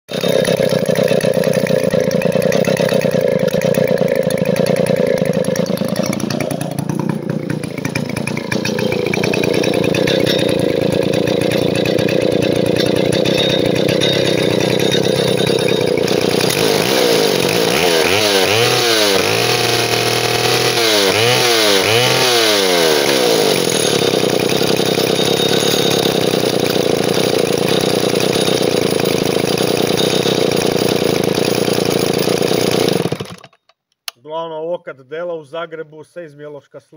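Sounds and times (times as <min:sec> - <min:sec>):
chainsaw engine revving: 0:00.1 - 0:33.6.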